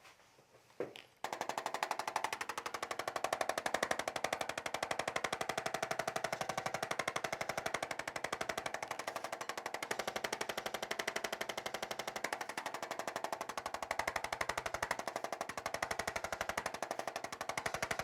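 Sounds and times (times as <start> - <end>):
rapid mechanical tapping: 1.2 - 18.0.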